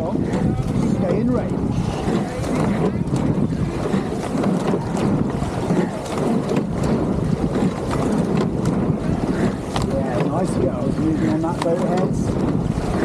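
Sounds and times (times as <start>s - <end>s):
oars clicking in gates: 0.0s - 13.0s
rushing water: 0.0s - 13.0s
wind buffeting microphone: 0.0s - 13.0s.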